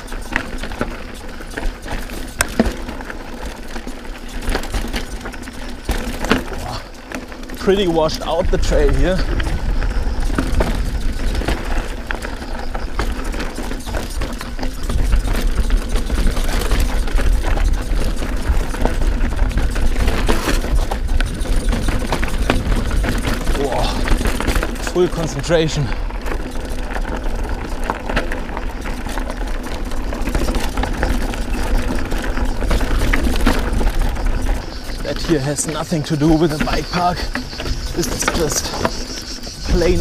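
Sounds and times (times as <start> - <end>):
bike clattering: 0.0 - 40.0
tyres crunching over stones: 0.0 - 40.0
wind rumbling on microphone: 0.0 - 40.0.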